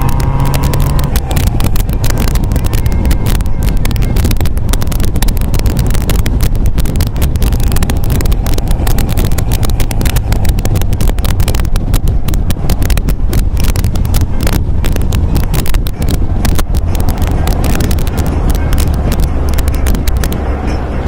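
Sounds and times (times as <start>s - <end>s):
car engine running: 0.0s - 21.0s
wind buffeting microphone: 0.0s - 21.0s.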